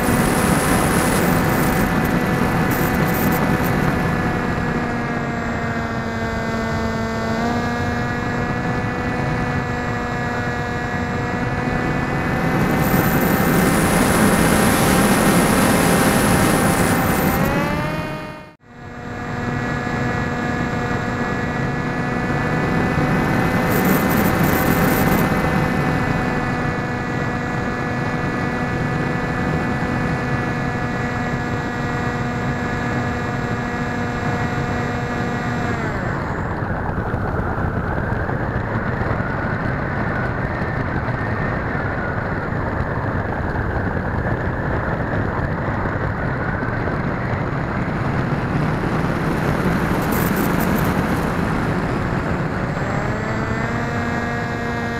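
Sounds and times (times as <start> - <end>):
electric motor whining: 0.0 - 39.3, 46.8 - 54.9
wind noise: 0.0 - 54.9.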